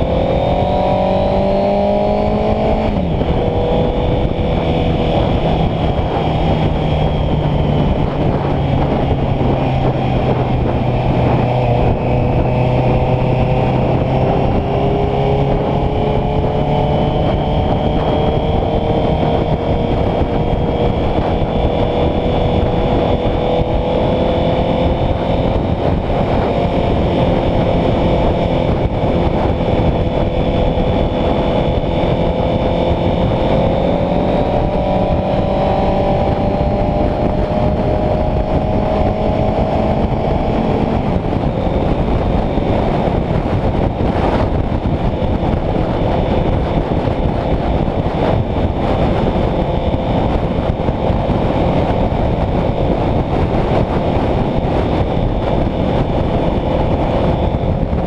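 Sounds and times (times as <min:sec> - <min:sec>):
motorcycle engine cruising: 0:00.0 - 0:58.0
wind rushing: 0:00.0 - 0:58.0.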